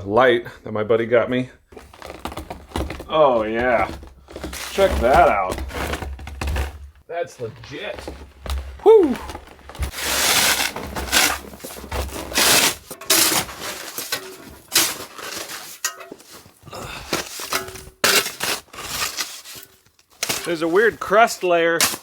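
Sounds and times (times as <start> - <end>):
snow shovel crunching and scraping: 1.8 - 22.0.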